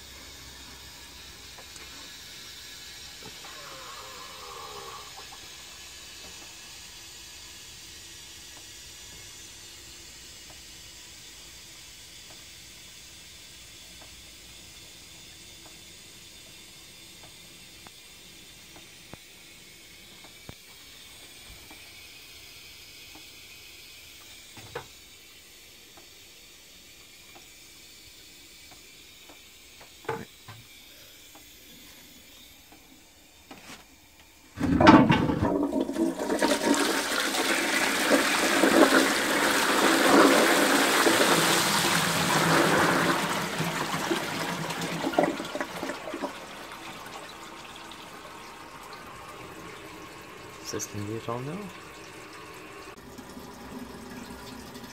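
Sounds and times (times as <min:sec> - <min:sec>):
cistern flushing water rush: 0:00.0 - 0:33.4, 0:34.4 - 0:54.9.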